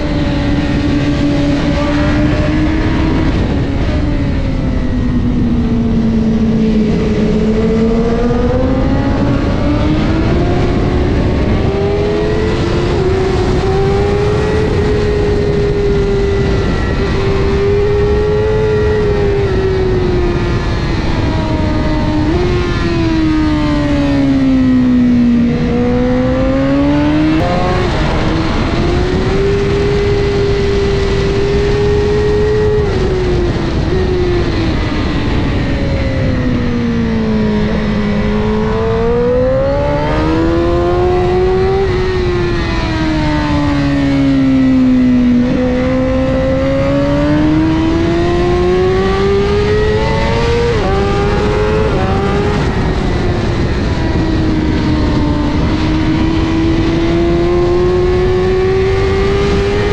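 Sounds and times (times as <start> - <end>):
motorcycle engine at speed: 0.0 - 59.9
wind noise rushing: 0.0 - 59.9.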